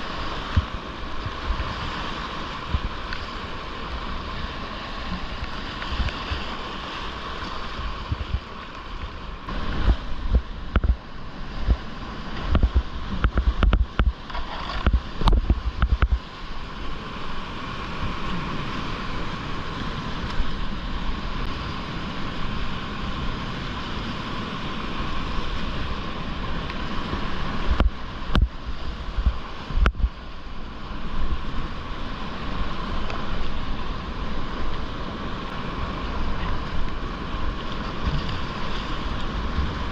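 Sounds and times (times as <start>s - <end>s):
whitewater rapids rushing: 0.0s - 39.9s.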